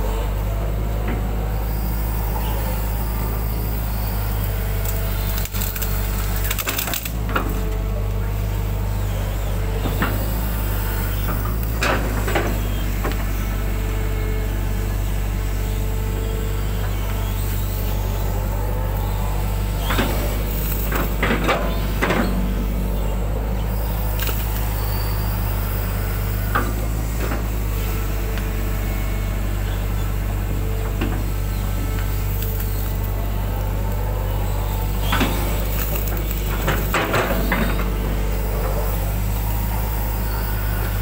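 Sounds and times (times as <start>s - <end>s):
excavator engine drone: 0.0s - 41.0s.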